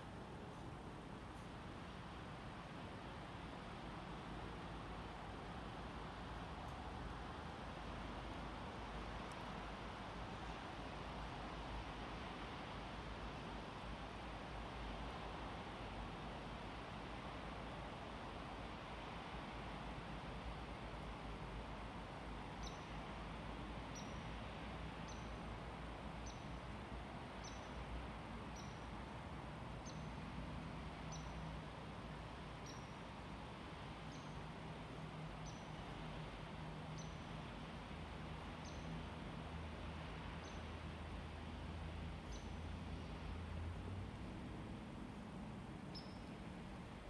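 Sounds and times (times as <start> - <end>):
faint hiss: 0.0 - 47.0.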